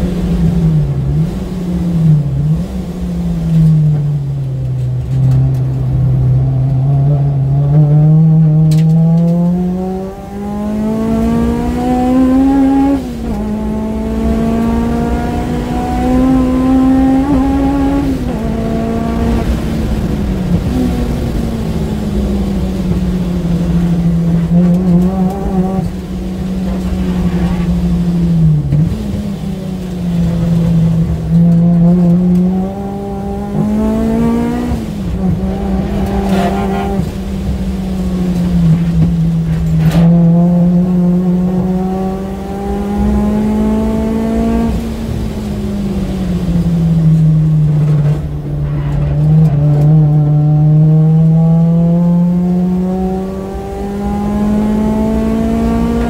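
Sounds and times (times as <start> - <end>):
car engine accelerating: 0.0 - 56.0
road and tyre noise: 0.0 - 56.0.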